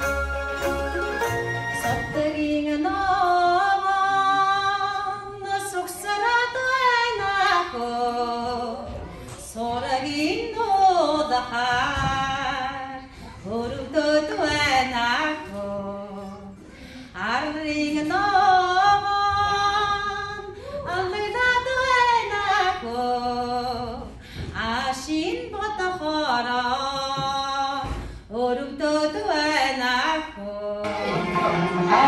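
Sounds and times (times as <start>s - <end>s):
woman singing into microphone: 1.8s - 31.2s.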